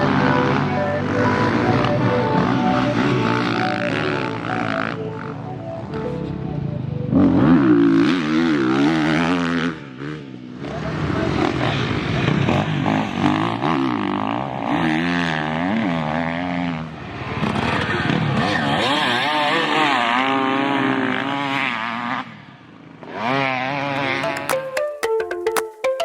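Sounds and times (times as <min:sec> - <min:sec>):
dirt bike engine revving: 0:00.0 - 0:06.0, 0:07.1 - 0:24.6.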